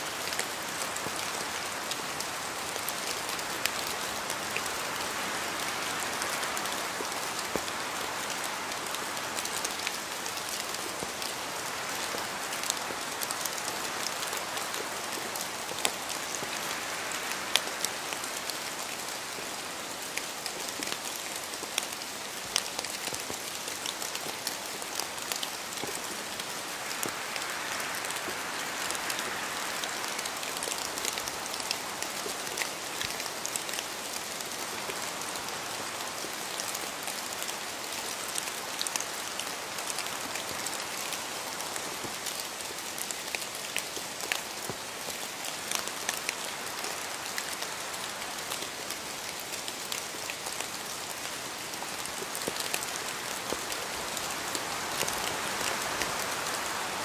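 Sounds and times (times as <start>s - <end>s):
rain hissing: 0.0s - 57.0s.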